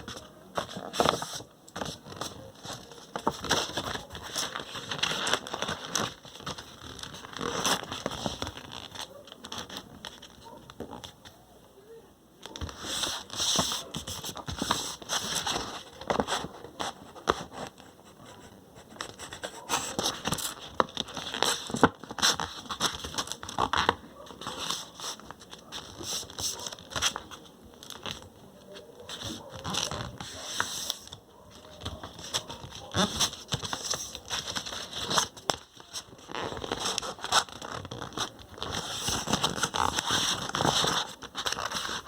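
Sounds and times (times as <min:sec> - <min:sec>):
paper rustling and creasing: 0:00.0 - 0:11.3, 0:12.4 - 0:42.0.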